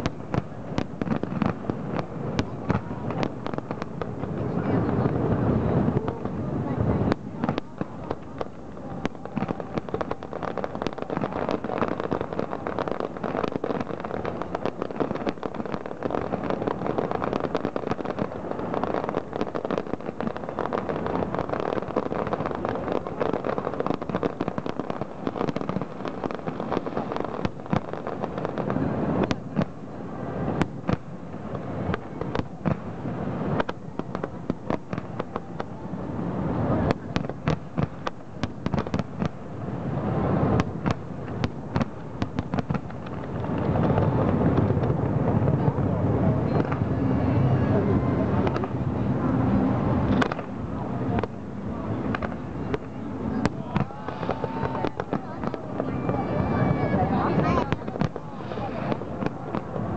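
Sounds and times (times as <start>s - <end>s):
fireworks bursting: 0.0s - 59.9s
fireworks crackling: 0.0s - 59.9s.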